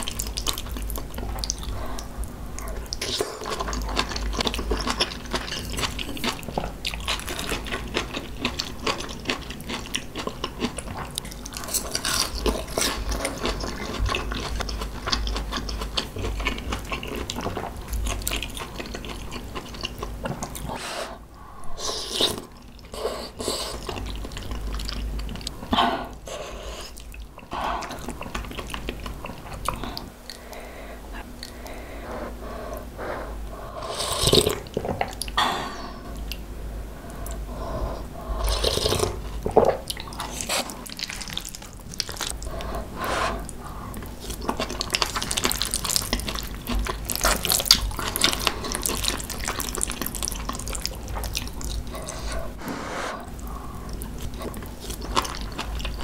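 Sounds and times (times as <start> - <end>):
wet chewing and mouth sounds: 0.0 - 56.0.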